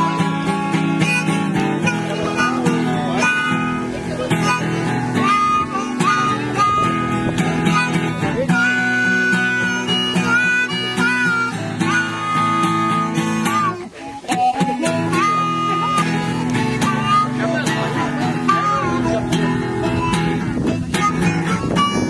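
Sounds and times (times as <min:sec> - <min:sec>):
acoustic guitar: 0:00.0 - 0:22.0
harmonica with pitch bends: 0:00.0 - 0:22.0.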